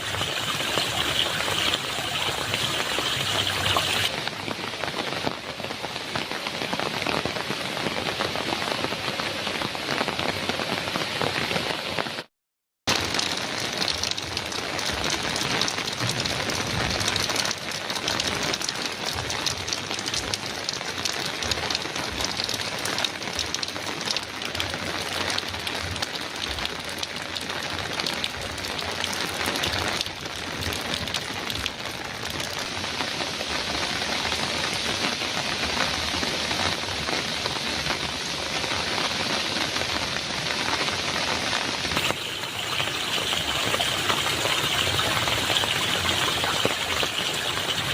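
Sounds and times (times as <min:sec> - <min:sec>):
heavy rain on a metal roof: 0:00.0 - 0:12.3, 0:12.9 - 0:47.9.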